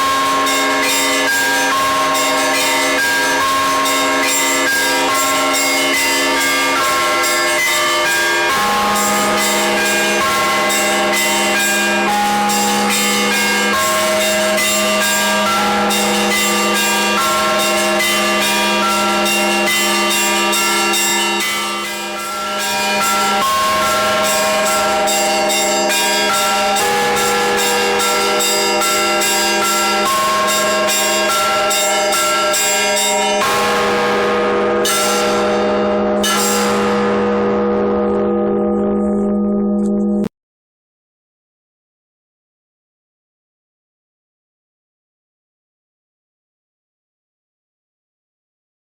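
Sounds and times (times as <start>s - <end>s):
church bells pealing: 0.0s - 40.3s
large bell humming: 0.0s - 40.3s.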